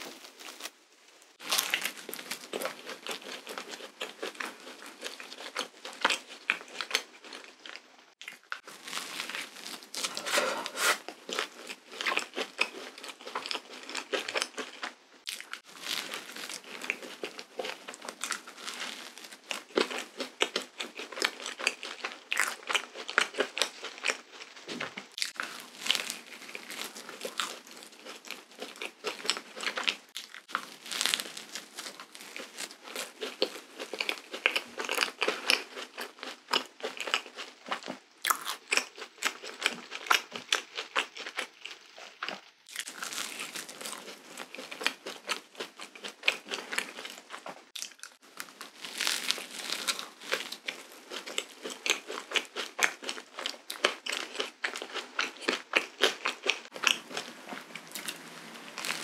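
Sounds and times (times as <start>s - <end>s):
crunchy chewing: 0.0s - 0.8s, 1.4s - 59.0s.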